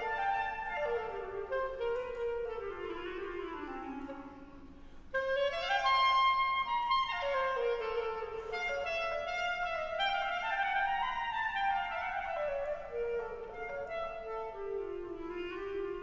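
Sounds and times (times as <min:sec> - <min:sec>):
clarinet solo melody: 0:00.0 - 0:16.0.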